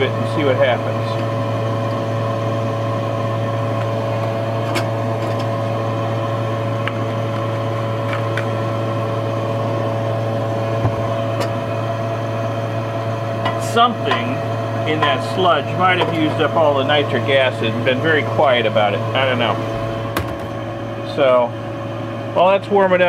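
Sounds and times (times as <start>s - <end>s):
exhaust fan humming: 0.0s - 23.0s.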